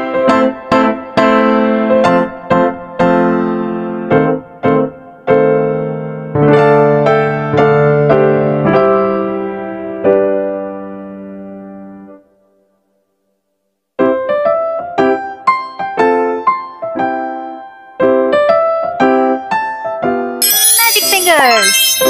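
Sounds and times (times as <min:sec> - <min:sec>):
gentle piano melody: 0:00.0 - 0:12.4, 0:14.0 - 0:22.0.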